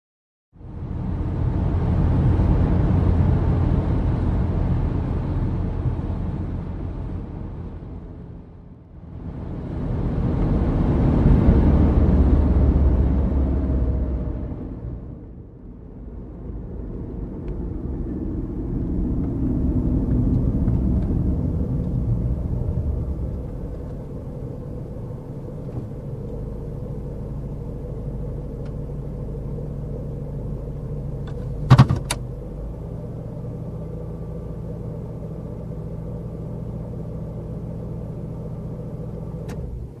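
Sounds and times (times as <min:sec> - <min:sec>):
low rumbling drone: 0:00.5 - 0:40.0.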